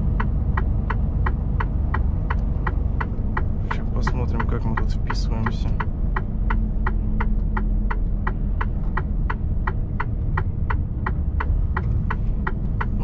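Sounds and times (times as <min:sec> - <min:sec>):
truck engine rumble: 0:00.0 - 0:13.0
turn signal ticking: 0:00.0 - 0:13.0
tyres on snowy road: 0:00.0 - 0:13.0.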